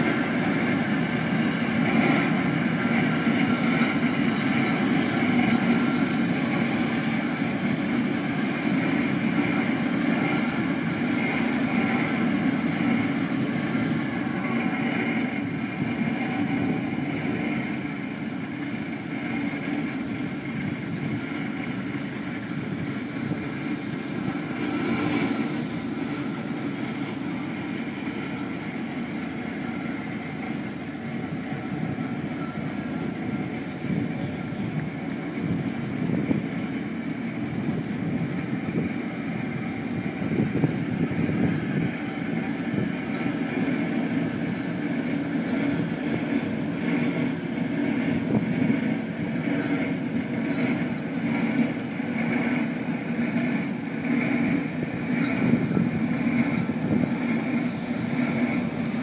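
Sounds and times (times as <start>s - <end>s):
diesel engine running: 0.0s - 59.0s
wind on microphone: 0.1s - 59.0s.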